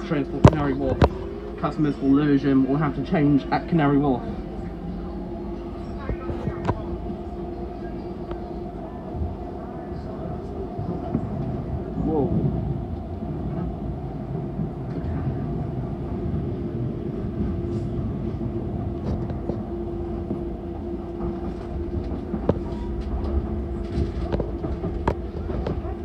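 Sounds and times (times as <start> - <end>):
train rumble and hum: 0.0 - 26.0.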